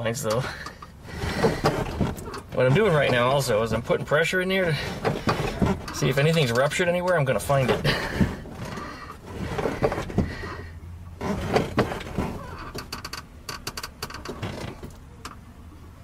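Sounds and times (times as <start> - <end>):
brake pedal clunks and knocks: 0.0 - 15.4.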